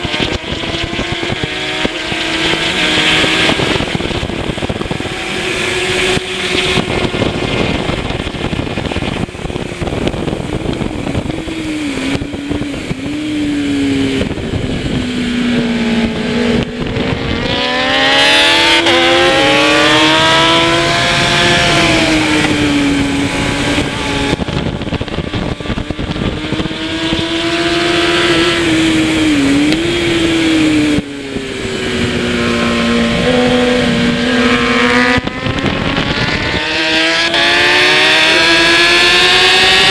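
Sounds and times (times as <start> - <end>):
motorcycle engine accelerating: 0.0 - 39.9
steady rush of noise: 0.0 - 39.9.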